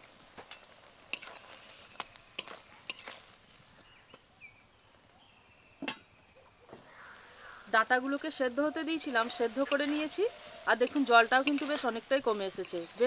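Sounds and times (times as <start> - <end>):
faint sizzle: 0.0 - 13.0.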